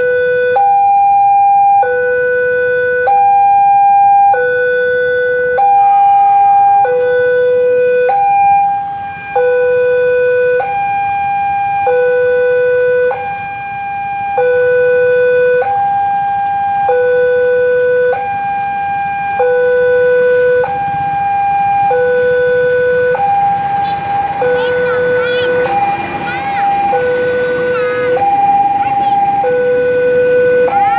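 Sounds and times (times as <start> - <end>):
two-tone crossing warning alarm: 0.0 - 30.9.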